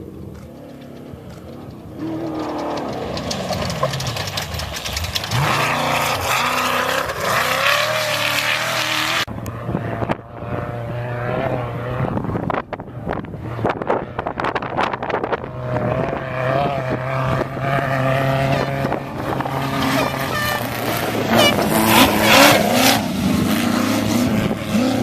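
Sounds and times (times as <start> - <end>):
race engines revving and passing: 0.0 - 25.0.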